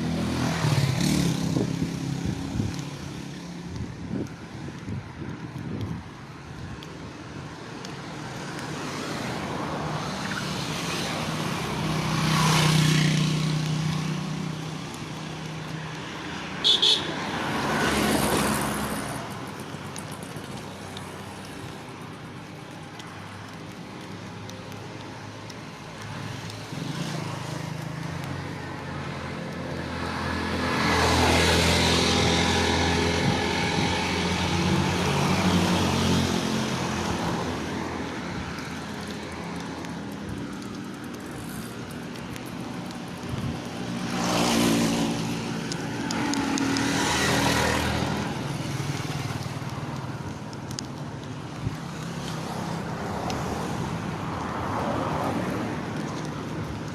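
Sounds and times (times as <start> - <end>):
vehicles going by: 0.0 - 56.9.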